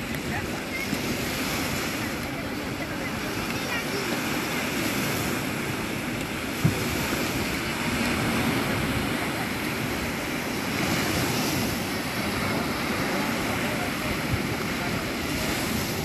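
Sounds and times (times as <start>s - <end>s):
waves washing on sandy beach: 0.0s - 16.0s
wind on microphone: 0.0s - 16.0s.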